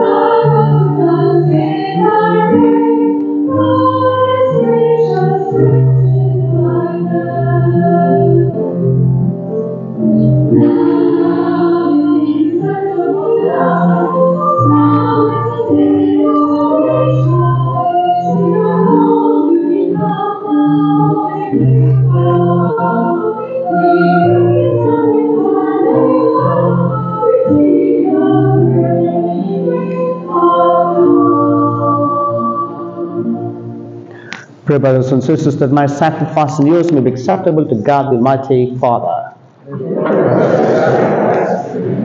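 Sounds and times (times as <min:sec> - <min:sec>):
voices singing a hymn: 0:00.0 - 0:09.0, 0:10.0 - 0:39.0
church organ: 0:00.0 - 0:39.3.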